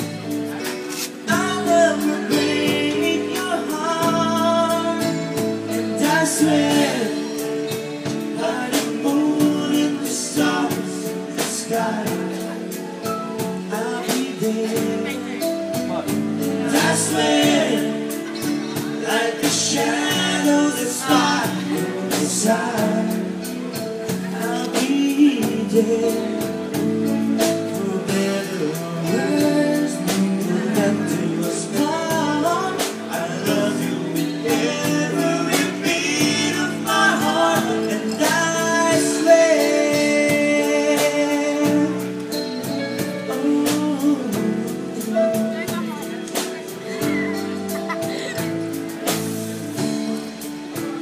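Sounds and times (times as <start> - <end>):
keyboard chords: 0.0 - 51.0
person singing: 0.0 - 51.0.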